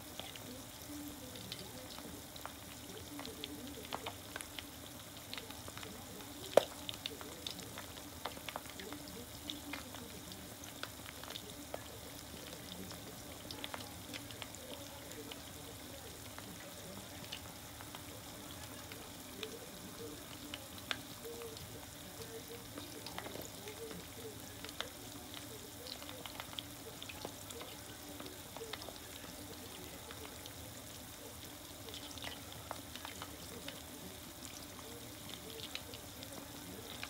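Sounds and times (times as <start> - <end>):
food deep-frying in oil: 0.0 - 37.0.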